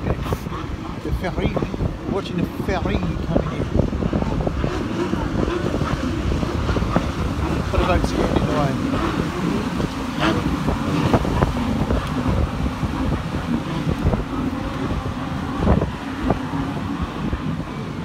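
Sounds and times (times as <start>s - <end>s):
boat engine drone: 0.0s - 18.0s
wind buffeting microphone: 0.0s - 18.0s.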